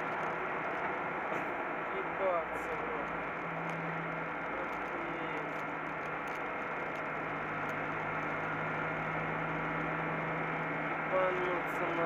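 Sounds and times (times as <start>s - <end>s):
road noise inside cab: 0.0s - 12.0s
vehicle engine drone: 0.0s - 12.0s.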